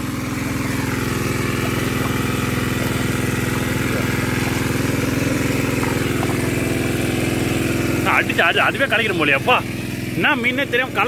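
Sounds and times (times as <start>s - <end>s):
diesel engine running water pump: 0.0s - 11.0s.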